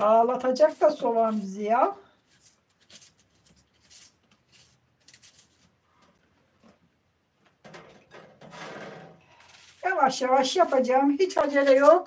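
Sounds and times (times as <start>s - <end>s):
rustling: 0.8s - 12.0s.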